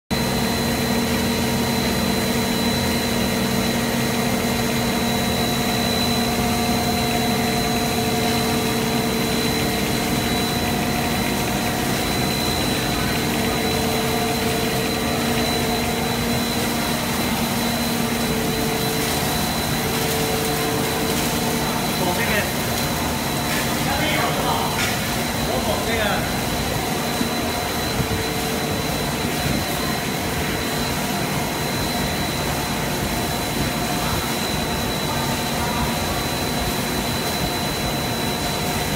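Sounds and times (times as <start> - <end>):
constant high whine: 0.1 - 38.9
machinery hum: 0.1 - 38.9.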